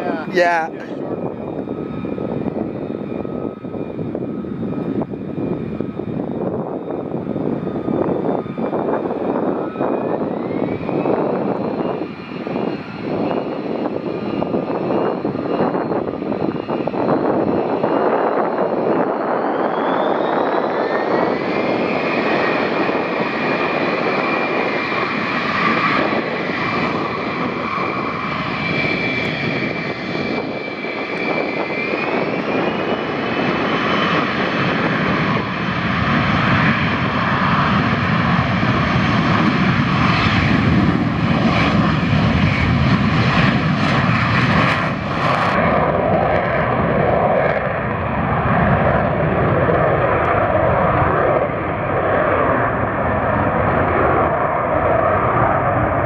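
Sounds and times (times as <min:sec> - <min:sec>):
jet engine whining and rumbling: 0:00.0 - 0:56.0.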